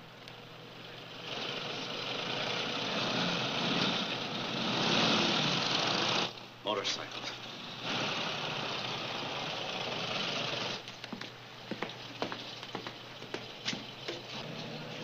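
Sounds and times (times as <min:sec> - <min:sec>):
motorcycle engines running: 0:00.0 - 0:06.4, 0:07.4 - 0:10.8, 0:11.7 - 0:15.0.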